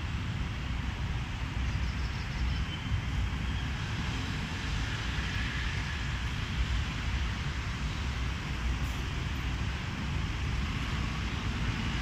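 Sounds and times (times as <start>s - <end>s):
street traffic: 0.0s - 12.0s
tram rumbling over wet rails: 0.0s - 12.0s.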